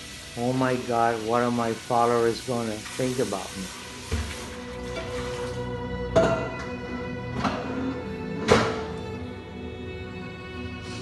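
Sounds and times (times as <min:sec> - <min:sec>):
background music with strings: 0:00.0 - 0:11.0.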